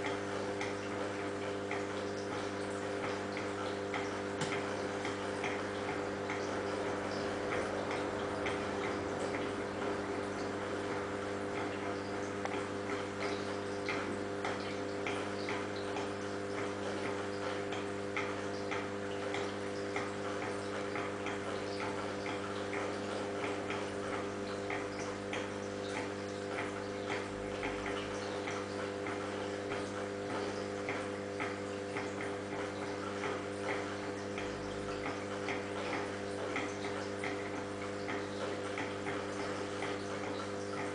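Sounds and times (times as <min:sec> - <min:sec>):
electrical hum of aquarium pump: 0:00.0 - 0:40.9.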